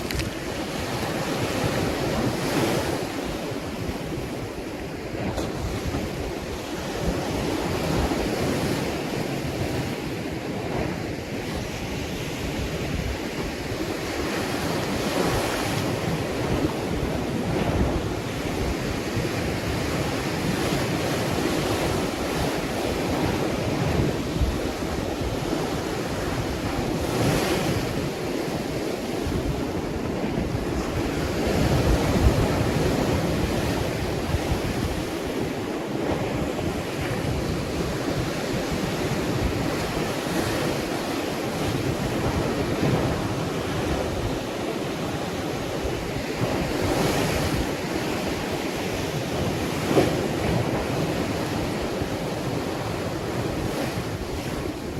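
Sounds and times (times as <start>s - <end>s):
ocean waves washing: 0.0s - 54.9s
wind buffeting microphone: 0.0s - 54.9s.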